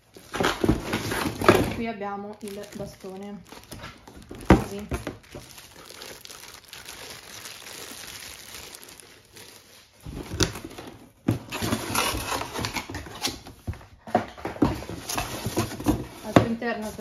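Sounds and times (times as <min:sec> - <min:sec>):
plastic wrapping crinkling: 0:00.0 - 0:13.6, 0:14.6 - 0:17.0.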